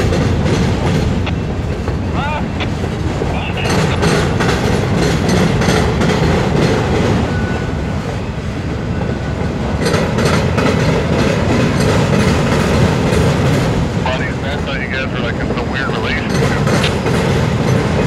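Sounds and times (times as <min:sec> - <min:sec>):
train wheels rumbling on rails: 0:00.0 - 0:18.0
wheels clacking over rail joints: 0:00.0 - 0:18.0.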